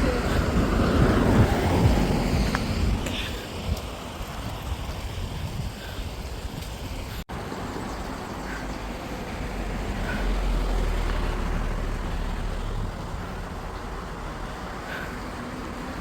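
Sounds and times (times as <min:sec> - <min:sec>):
heavy low outdoor rumble: 0:00.0 - 0:16.0.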